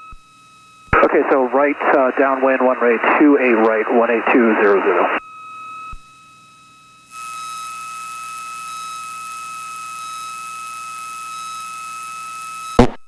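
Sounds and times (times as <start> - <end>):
constant high whine: 0.0 - 13.0.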